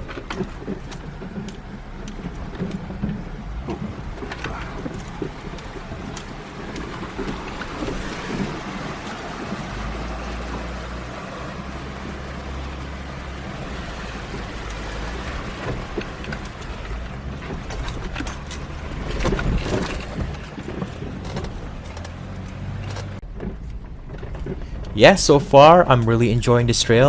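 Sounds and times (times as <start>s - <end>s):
off-road vehicle engine running: 0.0s - 27.0s
vehicle clunks and rattles: 0.0s - 27.0s
water washing around vehicle: 0.0s - 27.0s.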